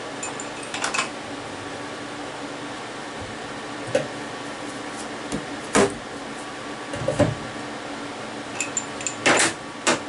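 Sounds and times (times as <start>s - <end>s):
steady machine hum: 0.0s - 10.0s.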